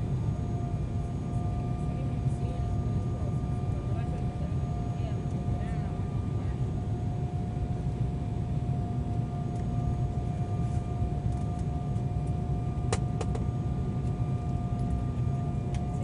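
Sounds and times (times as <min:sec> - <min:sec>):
airliner cabin rumble: 0:00.0 - 0:16.0
turbofan whine: 0:00.0 - 0:16.0.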